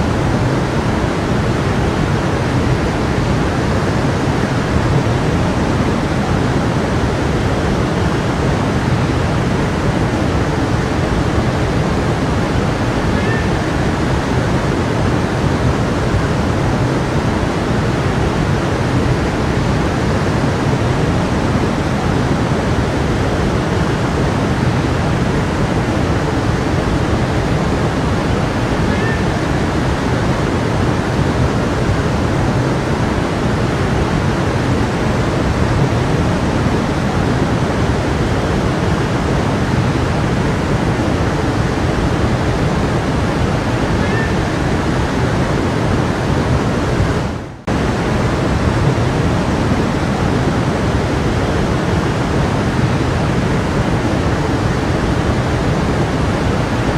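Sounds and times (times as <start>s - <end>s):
stream water flowing: 0.0s - 56.9s.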